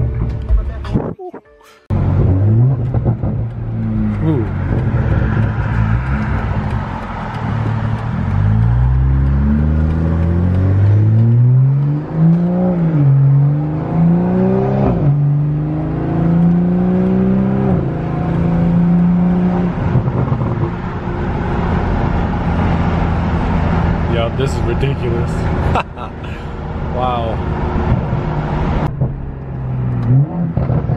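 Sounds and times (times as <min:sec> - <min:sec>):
car engine accelerating hard: 0:01.9 - 0:30.9.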